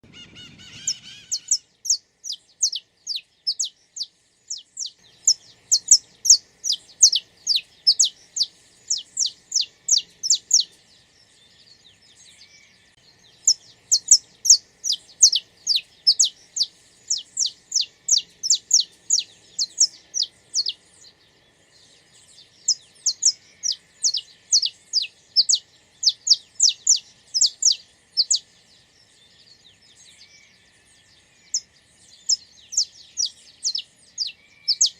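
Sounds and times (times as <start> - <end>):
finch chirping song: 0.0 - 34.9.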